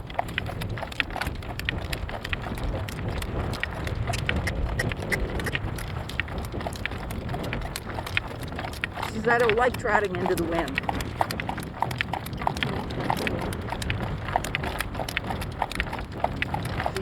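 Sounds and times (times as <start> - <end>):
hooves clip-clopping: 0.0 - 17.0
wind rumble on microphone: 0.0 - 17.0.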